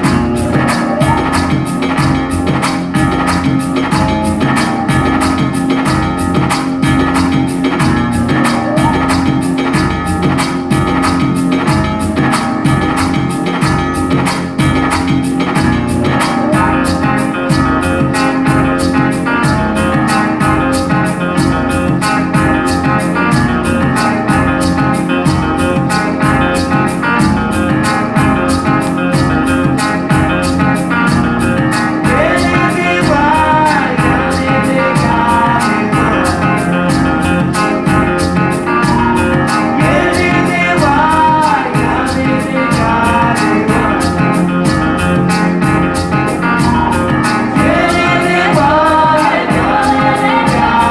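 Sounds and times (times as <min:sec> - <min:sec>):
person singing: 0:00.0 - 0:50.9
song with beat and guitar: 0:00.0 - 0:50.9.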